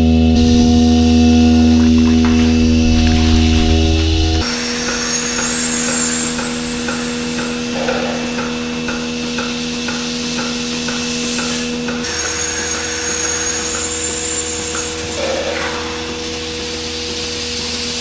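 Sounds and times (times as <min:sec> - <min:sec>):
vacuum pump hum: 0:00.0 - 0:16.8
pulsators ticking: 0:00.1 - 0:15.0.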